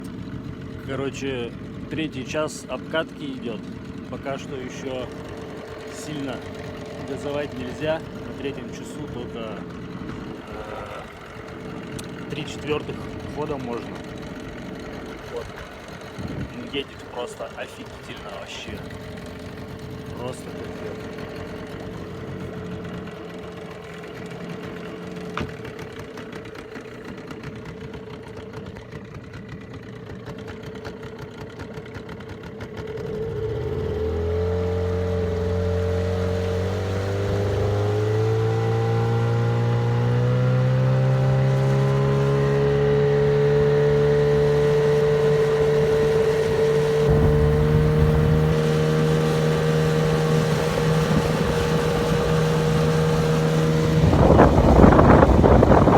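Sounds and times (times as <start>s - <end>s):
outboard motor running: 0.0s - 55.9s.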